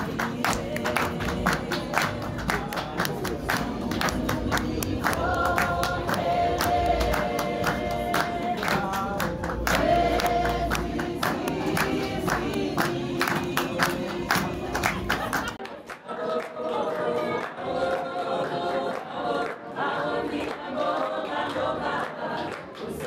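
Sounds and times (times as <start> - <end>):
group singing a worship song: 0.0 - 23.0
hand-clapping in time: 0.0 - 23.0.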